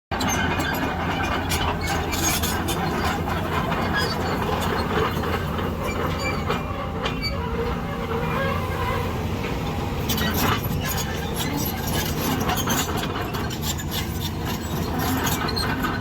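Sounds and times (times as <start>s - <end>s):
excavator diesel engine running: 0.1s - 16.0s.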